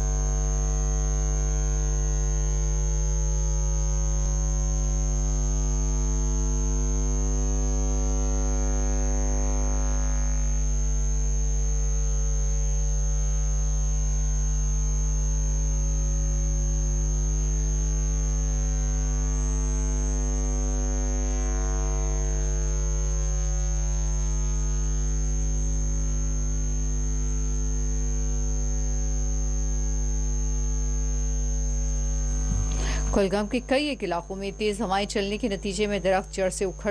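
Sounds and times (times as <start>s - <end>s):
high-pitched whine: 0.0s - 16.5s, 17.3s - 36.9s
electrical mains hum: 0.0s - 36.9s.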